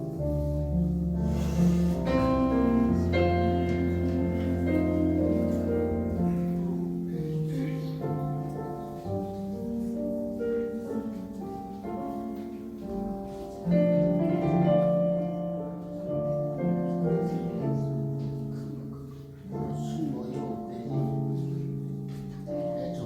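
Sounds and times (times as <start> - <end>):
keyboard playing a hymn: 0.0 - 23.0.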